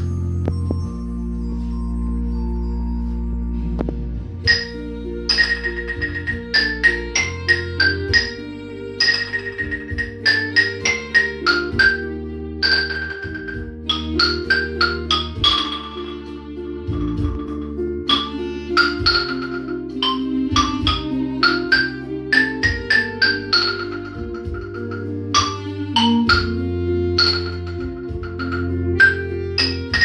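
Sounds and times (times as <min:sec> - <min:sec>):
bell-like percussion melody: 0:00.0 - 0:03.8, 0:04.4 - 0:30.0
sustained chords and bass: 0:00.0 - 0:30.0.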